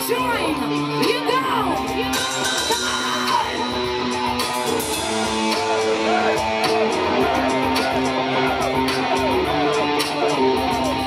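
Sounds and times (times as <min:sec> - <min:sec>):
metal band playing live: 0:00.0 - 0:11.0.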